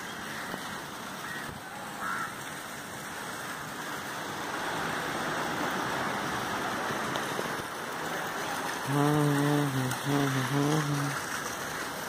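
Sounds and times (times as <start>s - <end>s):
steady rushing outdoor noise: 0.0s - 12.0s.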